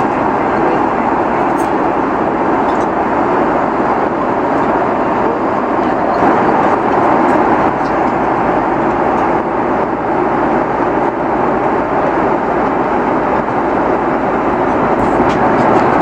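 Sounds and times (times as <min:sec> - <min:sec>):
airliner cabin engine and airflow noise: 0:00.0 - 0:16.0.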